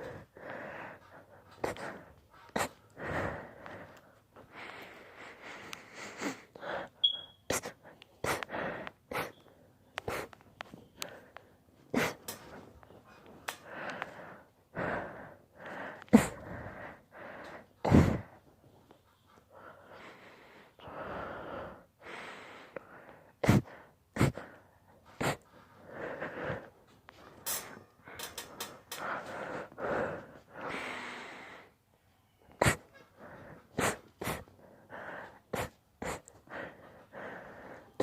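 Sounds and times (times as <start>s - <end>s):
wheezy gasping breaths: 0.0s - 38.0s.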